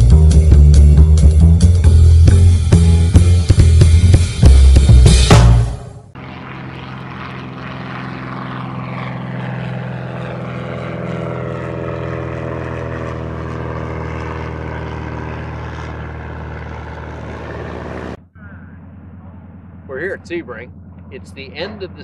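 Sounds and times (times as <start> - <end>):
light aircraft engine and propeller: 1.2 - 22.0.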